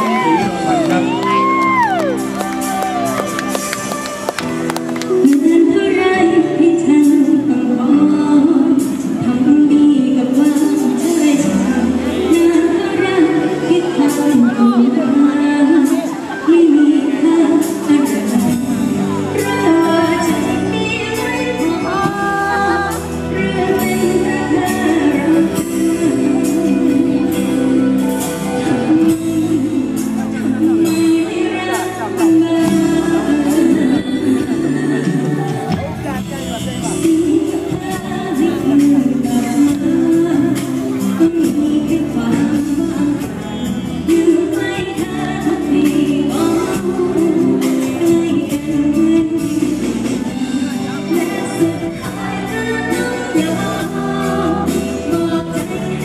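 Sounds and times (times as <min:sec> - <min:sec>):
live band playing: 0:00.0 - 0:56.0
woman singing into microphone: 0:00.0 - 0:56.0.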